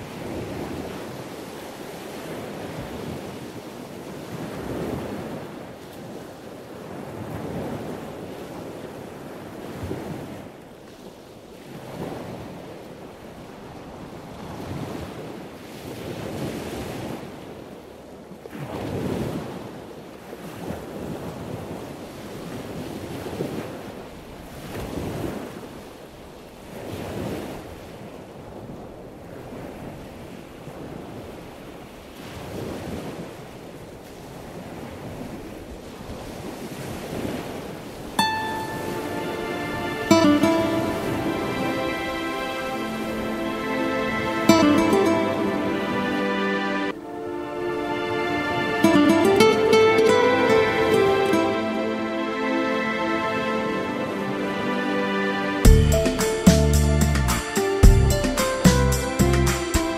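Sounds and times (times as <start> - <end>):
ocean waves washing in: 0.0 - 59.9.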